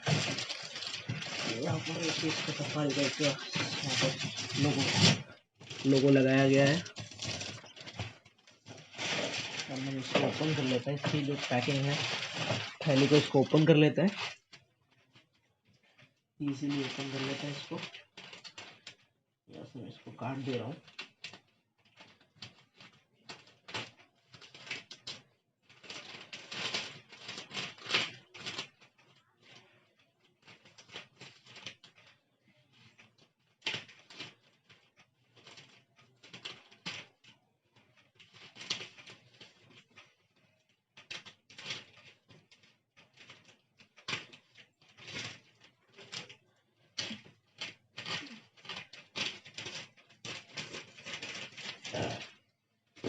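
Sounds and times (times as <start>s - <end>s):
plastic bag rustling and crinkling: 0.0s - 53.0s.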